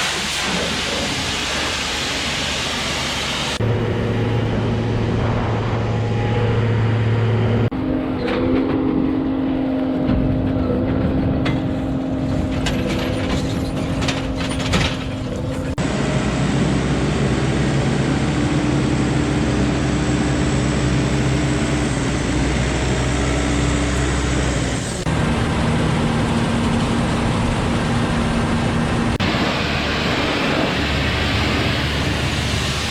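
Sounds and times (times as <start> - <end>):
farm machine engine running: 1.2 - 32.9.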